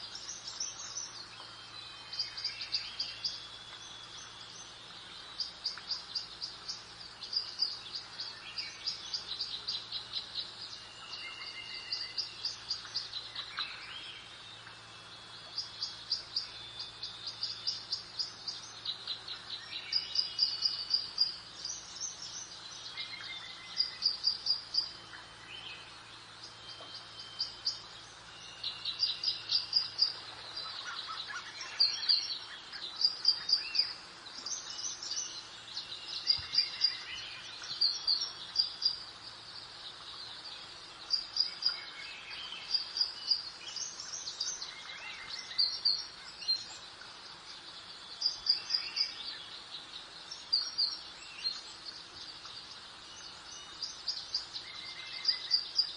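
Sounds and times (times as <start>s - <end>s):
soft background hiss: 0.0s - 55.9s
songbirds chirping: 0.0s - 55.9s.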